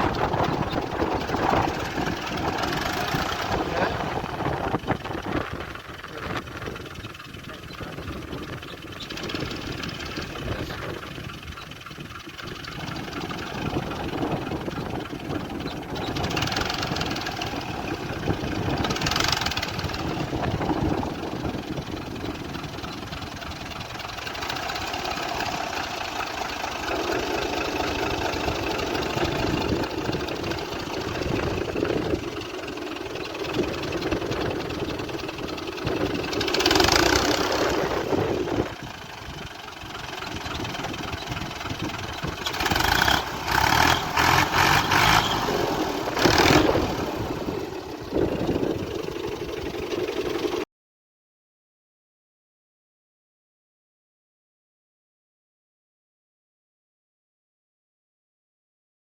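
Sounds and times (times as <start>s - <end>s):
tractor diesel engine running: 0.0s - 50.6s.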